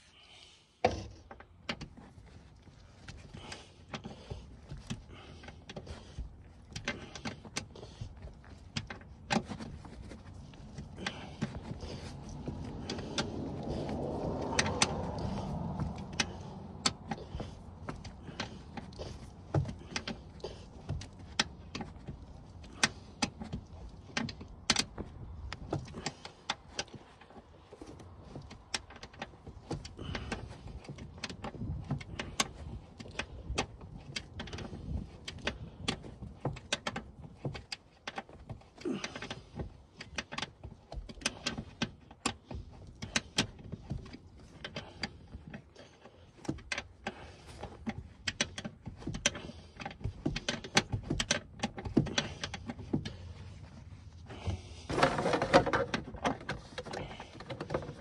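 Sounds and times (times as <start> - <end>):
rustle of handling: 1.3 - 58.0.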